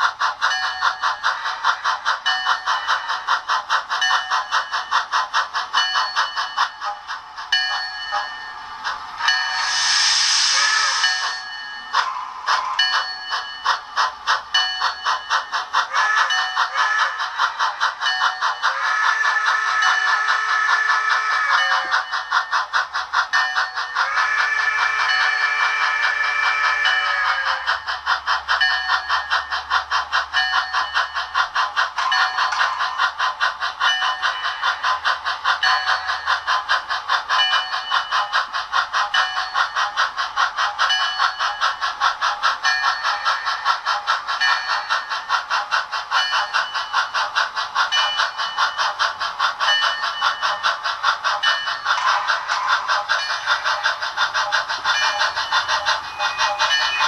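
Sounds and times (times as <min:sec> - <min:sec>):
steam locomotive chuffs: 0:00.0 - 0:57.0.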